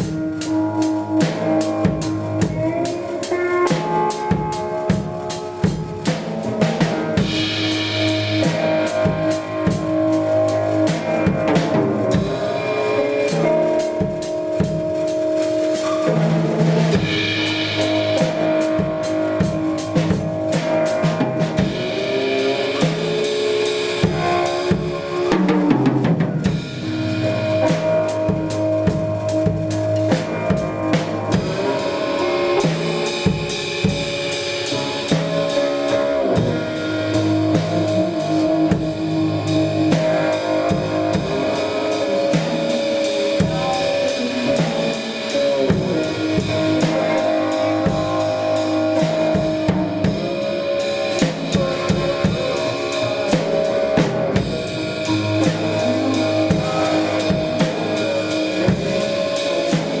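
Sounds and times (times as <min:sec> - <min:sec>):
blues band playing: 0:00.0 - 1:00.0
drum kit beat: 0:00.0 - 1:00.0
guitar: 0:00.0 - 1:00.0.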